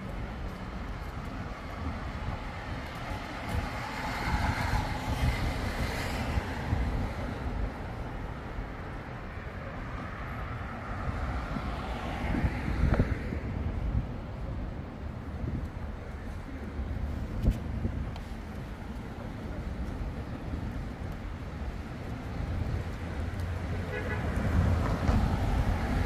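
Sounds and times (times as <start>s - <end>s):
rumble of passing vehicles: 0.0s - 26.0s.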